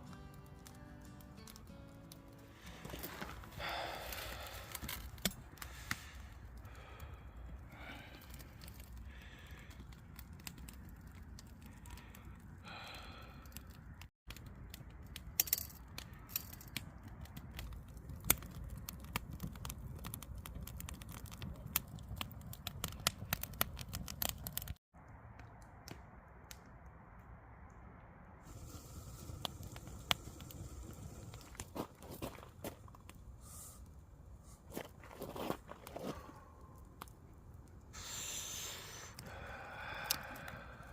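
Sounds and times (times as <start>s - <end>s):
wood fire crackling and popping: 0.0s - 26.8s, 28.4s - 40.9s
low fire rumble: 0.0s - 40.9s.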